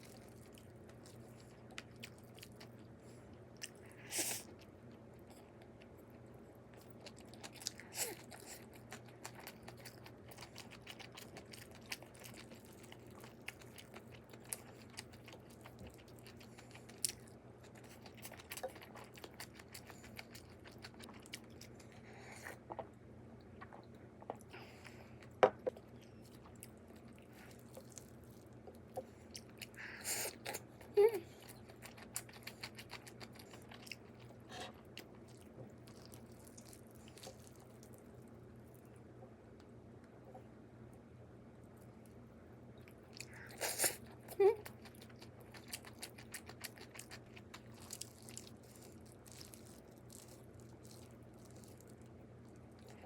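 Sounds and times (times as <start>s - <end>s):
person chewing food: 0.0s - 39.1s, 42.8s - 53.0s
faint room hum: 0.0s - 53.0s.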